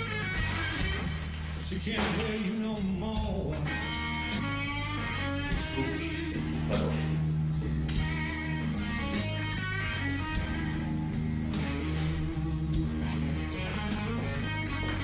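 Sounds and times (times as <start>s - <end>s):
blues-rock music with guitar: 0.0s - 15.0s.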